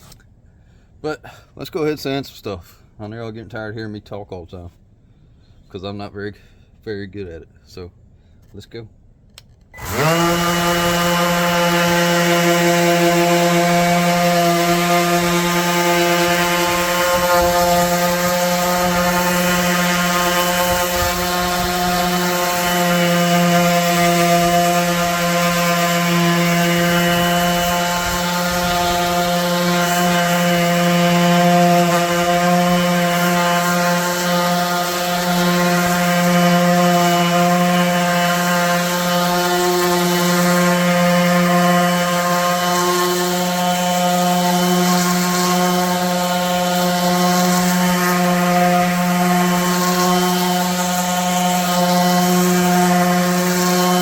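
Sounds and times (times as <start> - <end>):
electric sander running: 9.8 - 54.0.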